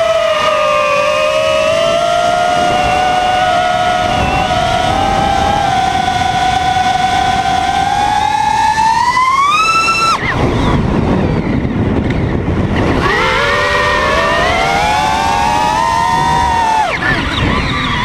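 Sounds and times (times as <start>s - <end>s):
quadcopter motors whining: 0.0s - 18.0s
rushing air: 0.0s - 18.0s.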